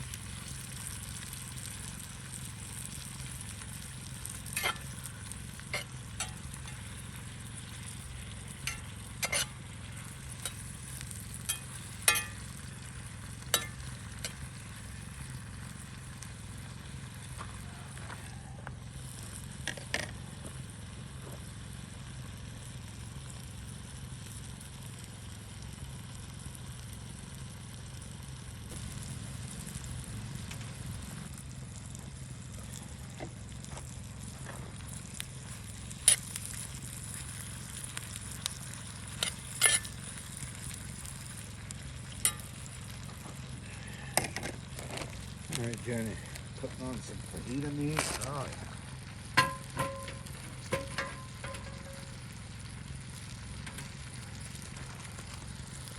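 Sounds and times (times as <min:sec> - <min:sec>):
vegetables sizzling in a pan: 0:00.0 - 0:55.9.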